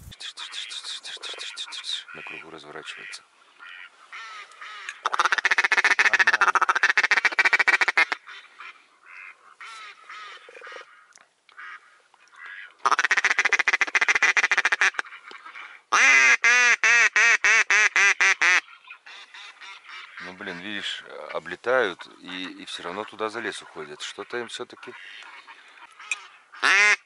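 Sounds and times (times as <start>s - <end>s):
duck call quacking: 0.0s - 11.0s, 11.6s - 21.0s, 24.9s - 27.0s.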